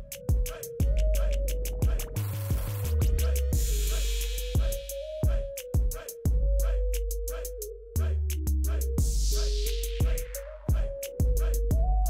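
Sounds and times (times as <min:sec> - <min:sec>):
hip hop music: 0:00.0 - 0:12.0.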